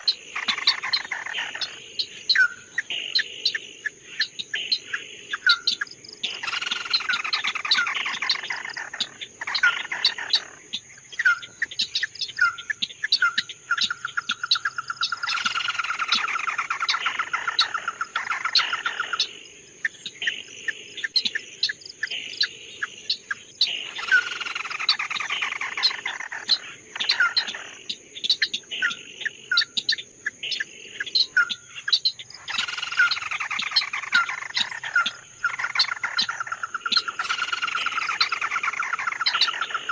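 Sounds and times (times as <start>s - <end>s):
songbird trilled song: 0.0s - 39.9s.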